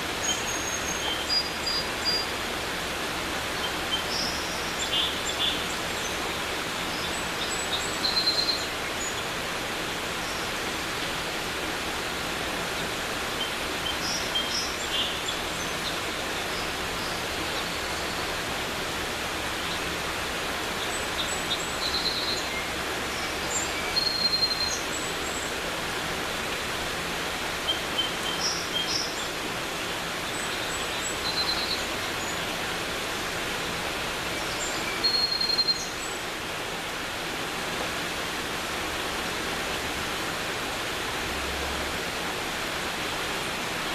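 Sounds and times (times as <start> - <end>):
creek rushing: 0.0 - 43.9
songbirds chirping: 0.0 - 43.9.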